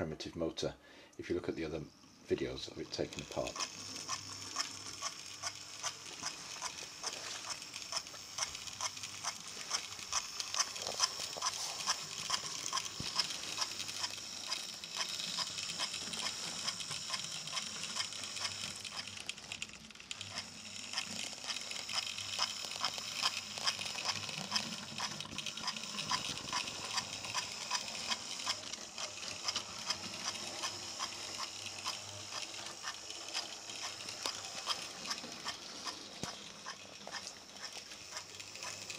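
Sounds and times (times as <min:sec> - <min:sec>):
model train motor whirring: 0:02.2 - 0:38.9
fast ticking chuff: 0:02.5 - 0:38.9.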